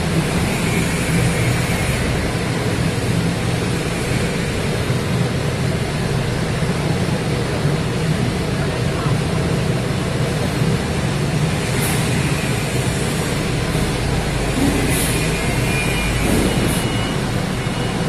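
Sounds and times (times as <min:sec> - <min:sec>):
machinery low hum: 0:00.0 - 0:18.0.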